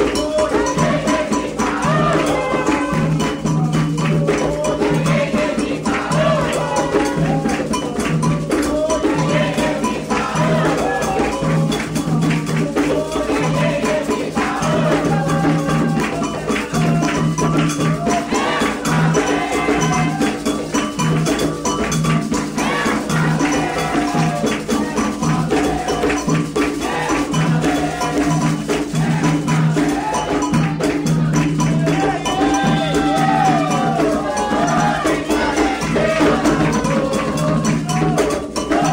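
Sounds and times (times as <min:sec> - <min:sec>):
hand drums beating: 0:00.0 - 0:38.9
rattle percussion: 0:00.0 - 0:38.9
voices singing a chant: 0:00.0 - 0:38.9.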